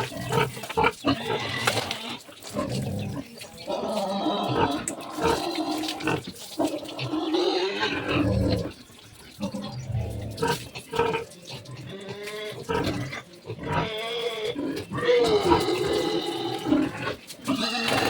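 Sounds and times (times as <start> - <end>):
pigs grunting and squealing: 0.0 - 18.0.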